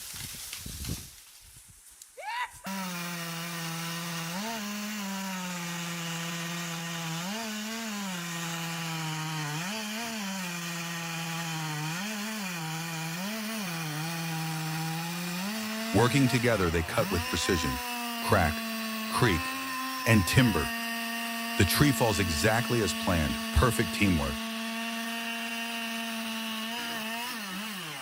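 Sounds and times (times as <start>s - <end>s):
chainsaw cutting: 2.6s - 28.0s.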